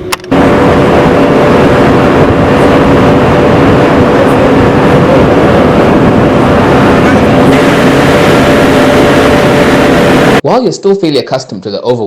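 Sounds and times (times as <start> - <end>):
tractor engine running: 0.0 - 10.4.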